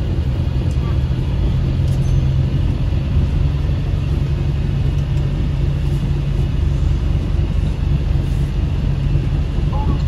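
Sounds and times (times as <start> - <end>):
bus diesel engine rumble: 0.0 - 10.0
road noise: 0.0 - 10.0.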